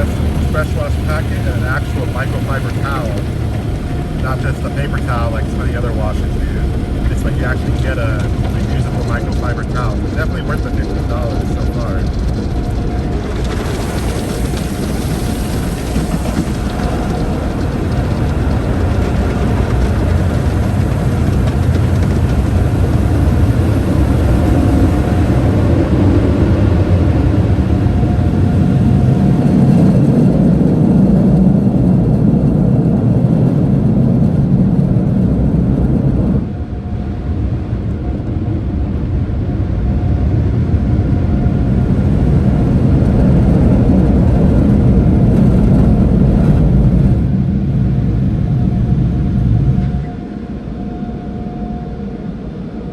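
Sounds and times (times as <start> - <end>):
car wash machinery rumbling: 0.0 - 52.9.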